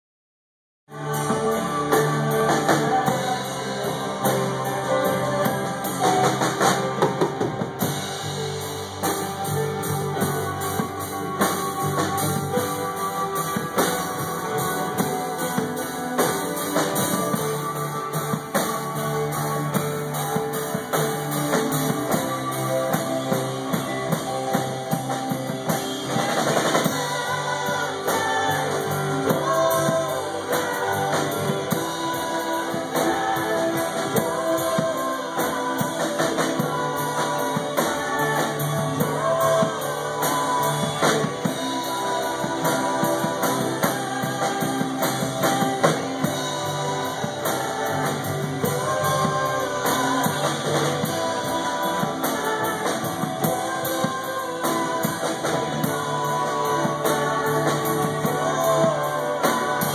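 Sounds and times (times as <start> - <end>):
acoustic guitar: 0.9 - 59.9
drum kit: 0.9 - 59.9
keyboard: 0.9 - 59.9.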